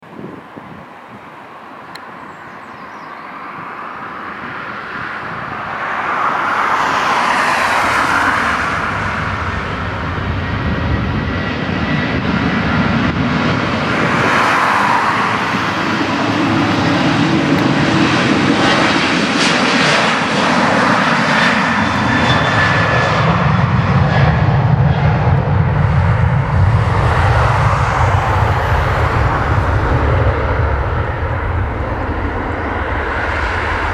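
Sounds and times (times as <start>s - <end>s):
jet engines at takeoff thrust: 0.0s - 33.9s.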